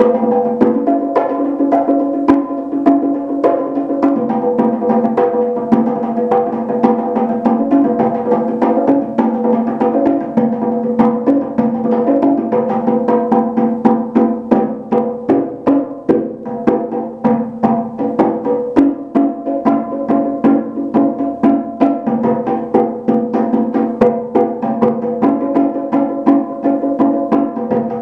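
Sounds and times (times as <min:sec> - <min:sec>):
bongo drums played by hand: 0:00.0 - 0:28.0.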